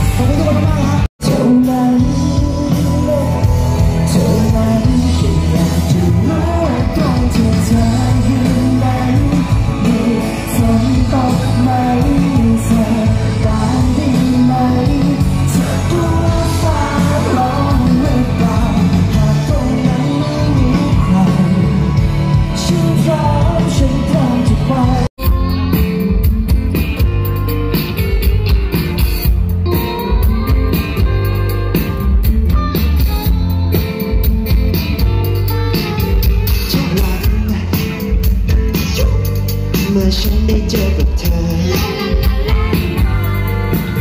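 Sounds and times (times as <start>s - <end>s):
live pop music with singer: 0.0s - 44.0s.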